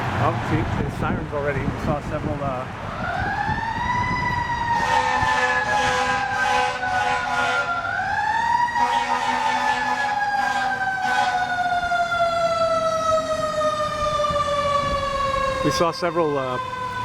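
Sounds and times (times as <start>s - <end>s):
emergency vehicle siren wailing: 2.5s - 17.0s.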